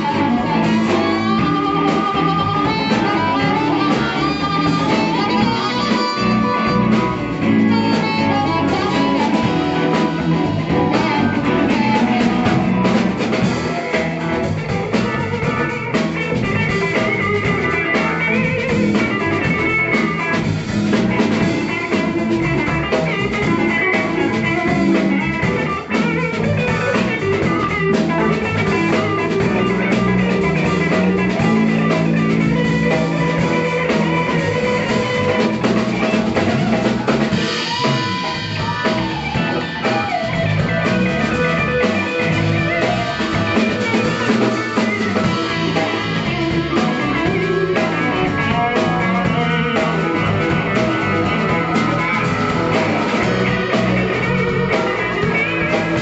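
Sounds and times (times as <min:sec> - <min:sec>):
blues band playing: 0:00.0 - 0:56.0
drum kit beat: 0:00.0 - 0:56.0
electric guitars: 0:00.0 - 0:56.0.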